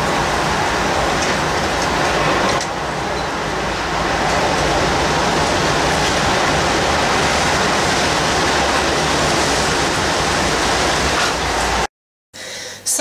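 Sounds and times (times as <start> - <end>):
strong storm wind rushing: 0.0 - 11.9.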